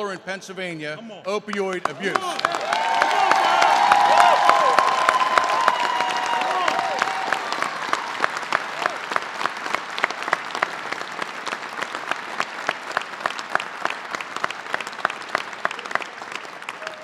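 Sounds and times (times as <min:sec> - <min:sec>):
crowd applauding: 0:01.5 - 0:17.0.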